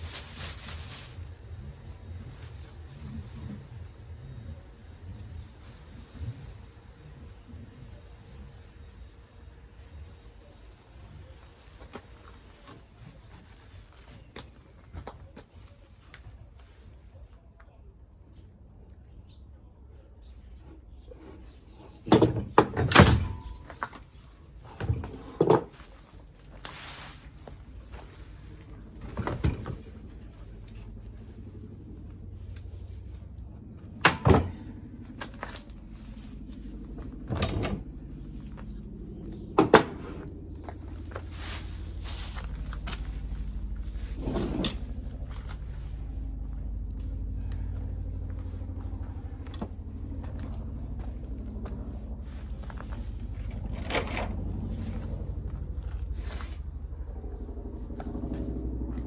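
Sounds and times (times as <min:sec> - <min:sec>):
steady low hum: 0:00.0 - 0:14.8, 0:15.7 - 0:59.0.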